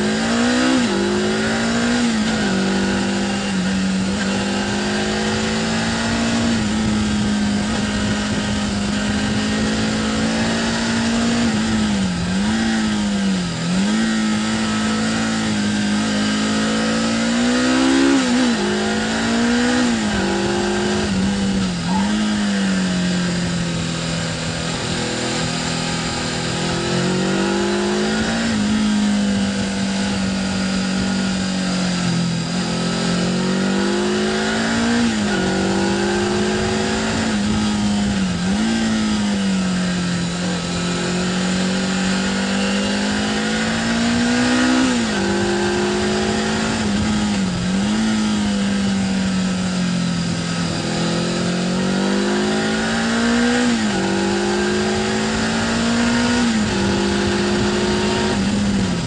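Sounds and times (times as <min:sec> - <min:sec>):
motorcycle engine under way: 0:00.0 - 0:59.0
wind and road noise: 0:00.0 - 0:59.0.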